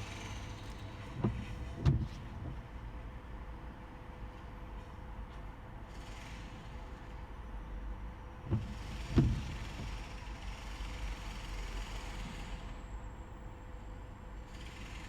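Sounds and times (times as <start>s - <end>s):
car engine and road rumble: 0.0s - 5.9s, 7.9s - 15.0s.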